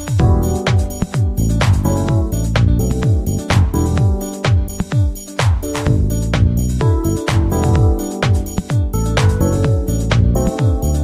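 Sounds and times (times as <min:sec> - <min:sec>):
kick drum: 0:00.0 - 0:11.0.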